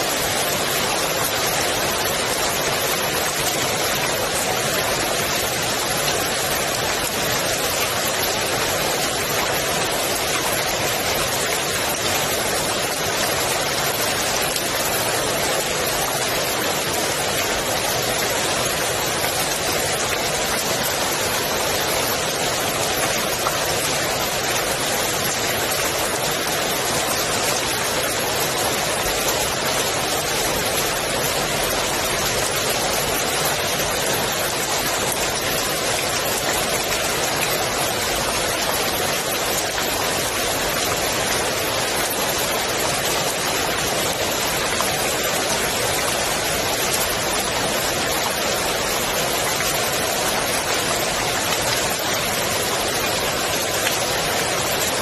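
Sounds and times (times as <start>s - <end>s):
rain falling on pool water: 0.0s - 55.0s.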